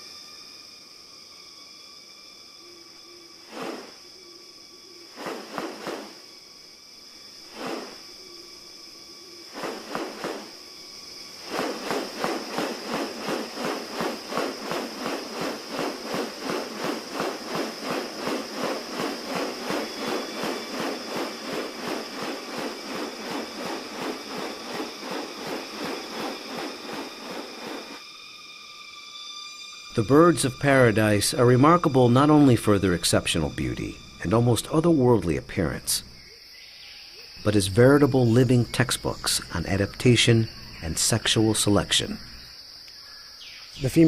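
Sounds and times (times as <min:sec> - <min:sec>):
insect pulsed calls: 0:00.0 - 0:44.0
insects droning: 0:00.0 - 0:44.0.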